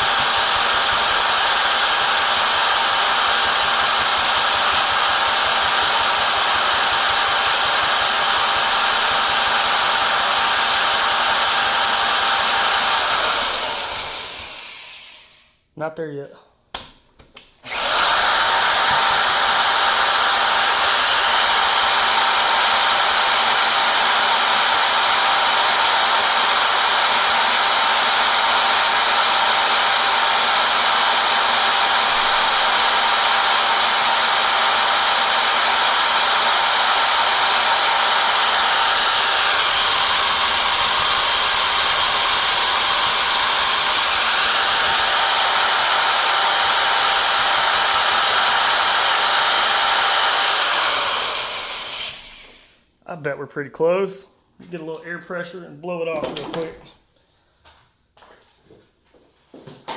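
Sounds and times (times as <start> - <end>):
drill boring into metal: 0.0 - 15.4, 17.6 - 52.7.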